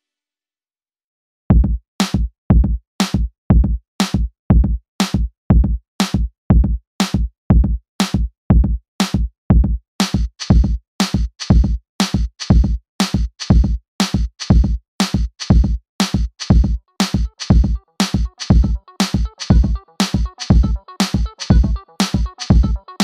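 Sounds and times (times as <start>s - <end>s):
drum machine beat: 1.5s - 23.0s.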